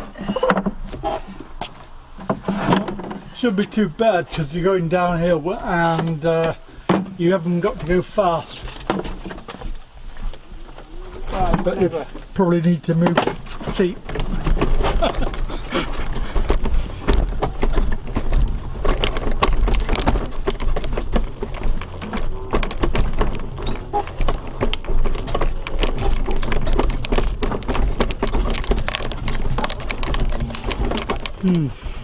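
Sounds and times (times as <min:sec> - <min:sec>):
mobility scooter rumble: 0:00.0 - 0:32.0
rattling and clicking: 0:04.4 - 0:32.0.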